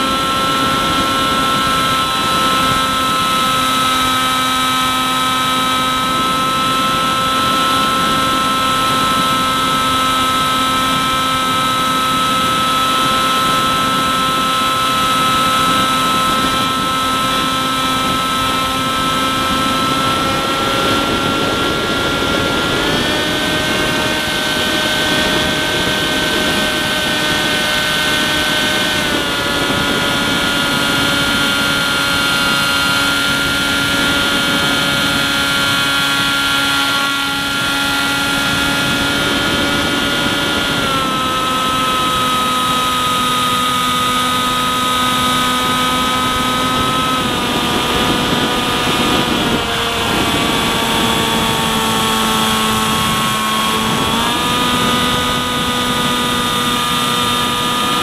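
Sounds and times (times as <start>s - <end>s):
small electric motor whine: 0.0s - 58.0s.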